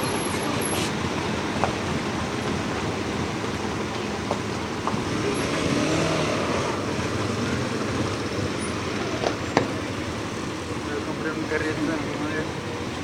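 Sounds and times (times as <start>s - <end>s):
slow-moving vehicle engines: 0.0s - 13.0s.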